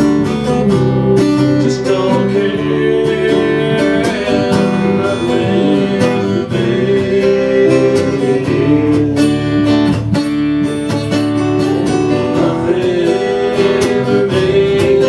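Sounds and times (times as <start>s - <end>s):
acoustic guitar strumming: 0.0s - 15.0s
person singing folk song: 0.0s - 15.0s.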